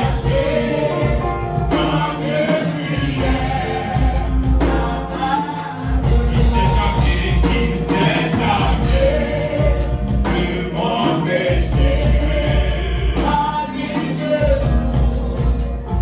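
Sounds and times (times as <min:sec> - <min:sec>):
band playing keyboard bass drums: 0:00.0 - 0:16.0
lead singer and backing singers: 0:00.0 - 0:16.0.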